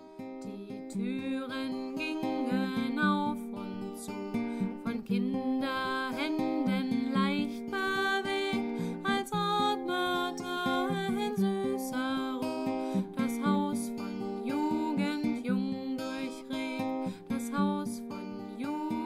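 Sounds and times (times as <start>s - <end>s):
plucked acoustic guitar music: 0.0s - 19.0s.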